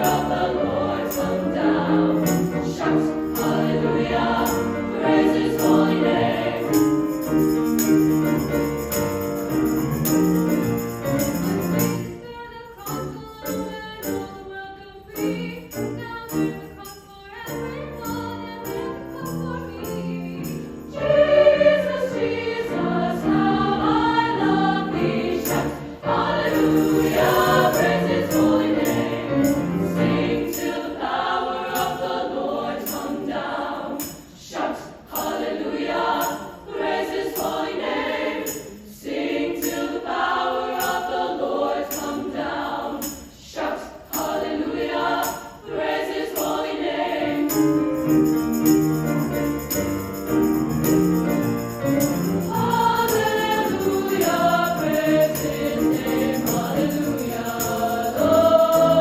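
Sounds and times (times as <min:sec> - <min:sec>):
jingling percussion beat: 0:00.0 - 0:14.4, 0:15.2 - 0:34.4, 0:35.1 - 0:38.9, 0:44.1 - 0:59.0
treble choir singing gospel: 0:00.0 - 0:59.0.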